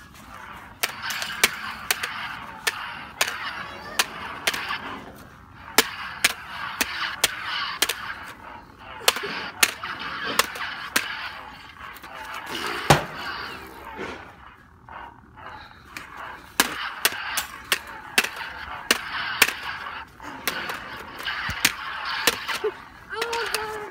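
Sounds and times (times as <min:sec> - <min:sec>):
plastic toy blades clacking: 0:00.0 - 0:13.9, 0:15.8 - 0:23.9
toy buzzing sound effect: 0:00.0 - 0:23.9.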